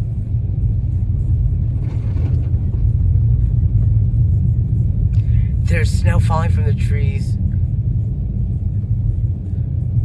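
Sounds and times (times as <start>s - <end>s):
car cabin road rumble: 0.0s - 10.0s.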